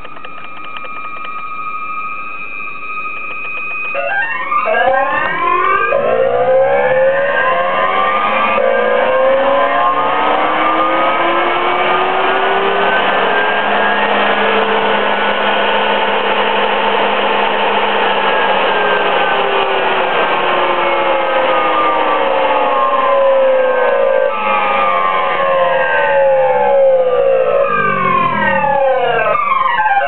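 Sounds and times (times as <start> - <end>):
electric motor whine: 0.0 - 29.4.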